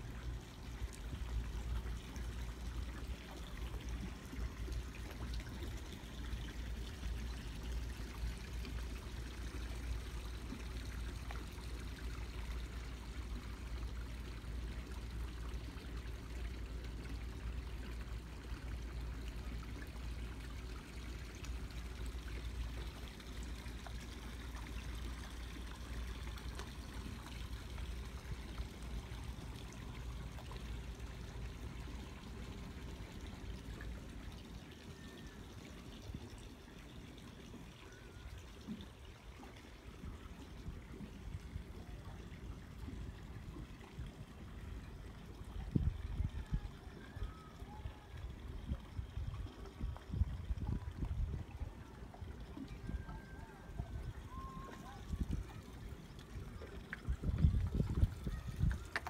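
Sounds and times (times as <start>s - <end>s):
water lapping against hull: 0.0s - 59.0s.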